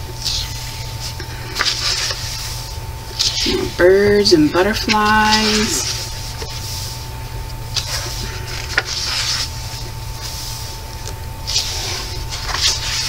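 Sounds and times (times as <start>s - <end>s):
steady low hum: 0.0s - 13.0s
pages turning and rustling: 0.2s - 3.8s, 4.7s - 7.0s, 7.7s - 13.0s.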